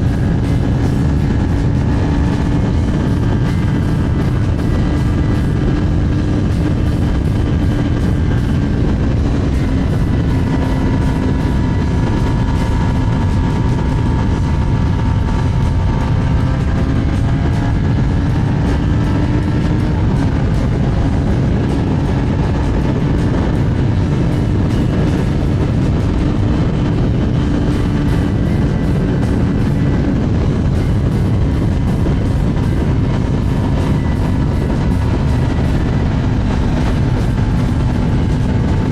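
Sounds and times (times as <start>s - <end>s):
motorcycle engine cruising: 0.0s - 38.9s
wind noise on microphone: 0.0s - 38.9s.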